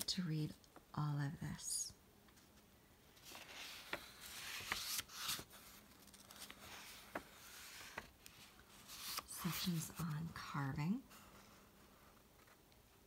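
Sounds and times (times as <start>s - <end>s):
dry paper pages rustling: 2.3s - 12.9s.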